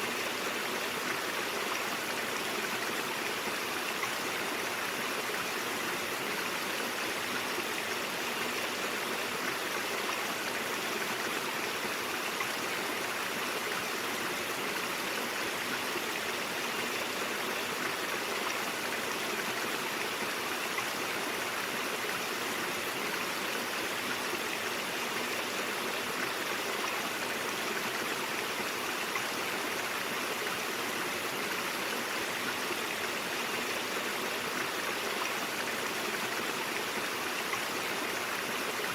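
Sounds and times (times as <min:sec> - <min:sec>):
water flowing over rocks: 0:00.0 - 0:38.9.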